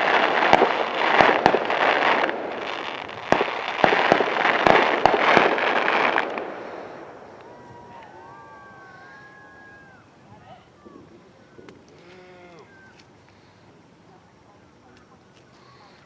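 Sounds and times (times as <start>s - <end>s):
fireworks crackling and banging: 0.0s - 13.4s.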